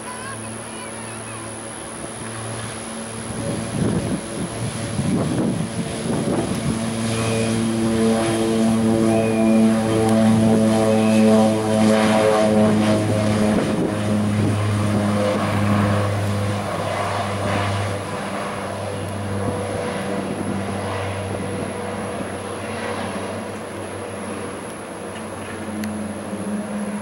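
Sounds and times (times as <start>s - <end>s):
turboprop aircraft propeller drone: 0.0s - 27.0s.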